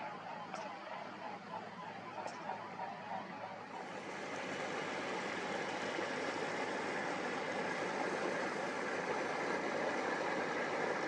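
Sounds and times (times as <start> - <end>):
boat engine hum: 0.0 - 11.0.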